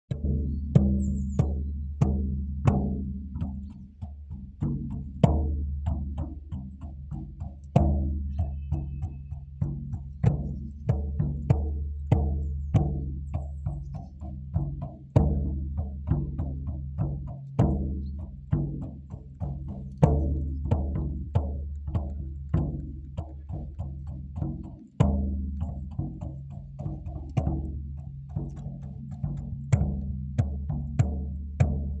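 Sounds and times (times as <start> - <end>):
frame drum beaten: 0.1 - 32.0.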